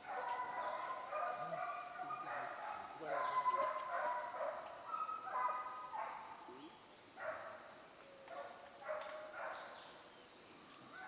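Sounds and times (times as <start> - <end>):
hunting dogs barking and baying: 0.0 - 6.4, 7.2 - 9.8.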